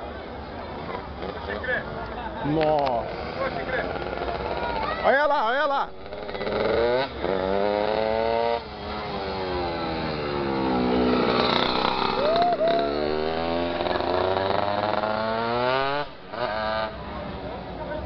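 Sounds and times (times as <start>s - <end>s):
motorcycle engine revving: 2.9s - 17.9s.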